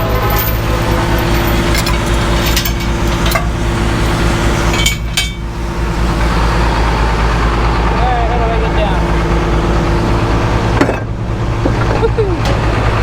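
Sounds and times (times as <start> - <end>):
scrap steel clanking: 0.0 - 7.4, 9.0 - 13.0
heavy machine engine running: 0.0 - 13.0.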